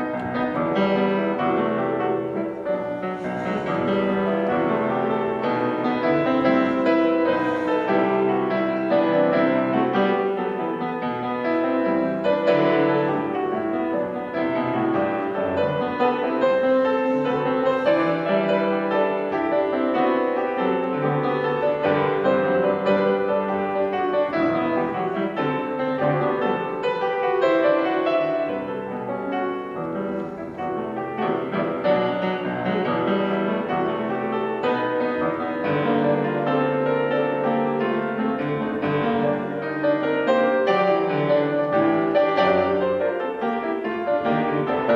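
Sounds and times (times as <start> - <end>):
piano music: 0.0 - 44.9.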